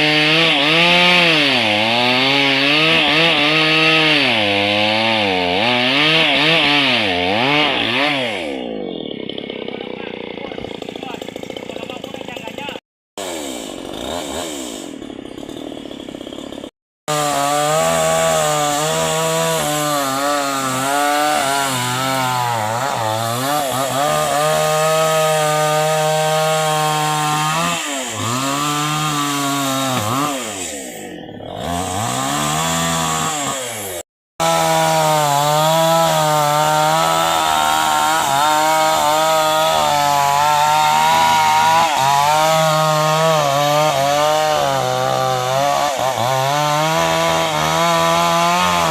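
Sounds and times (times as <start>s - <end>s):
chainsaw cutting into tree: 0.0s - 48.9s.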